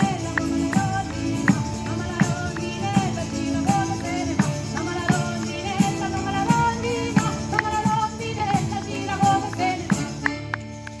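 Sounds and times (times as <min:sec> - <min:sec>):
woman singing: 0:00.0 - 0:10.6
acoustic guitar: 0:00.0 - 0:11.0
tambourine beaten in rhythm: 0:00.0 - 0:11.0.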